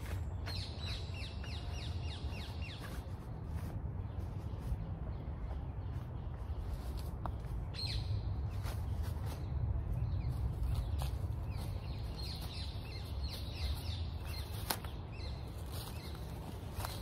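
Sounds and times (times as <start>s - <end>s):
bird chirping: 0.2s - 17.0s.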